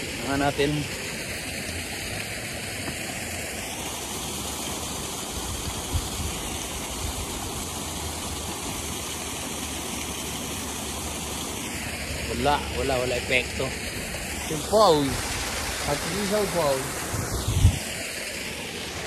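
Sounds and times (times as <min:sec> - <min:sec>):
waterfall rushing into pond: 0:00.0 - 0:19.0.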